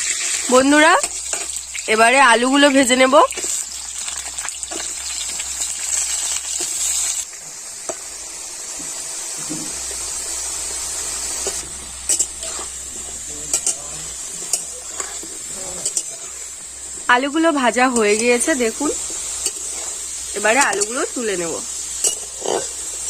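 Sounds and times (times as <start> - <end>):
potatoes sizzling in hot oil: 0.0 - 23.0.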